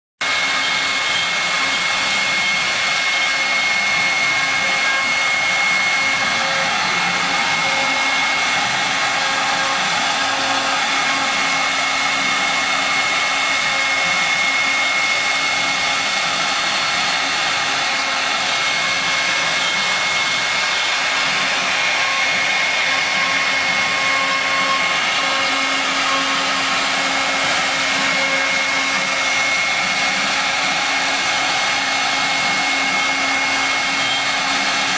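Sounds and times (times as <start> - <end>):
router spindle motor whine: 0.2 - 34.9.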